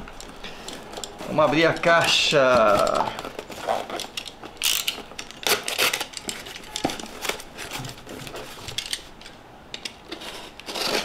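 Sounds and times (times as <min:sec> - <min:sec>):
plastic-wrapped box rustling: 0:00.0 - 0:09.2.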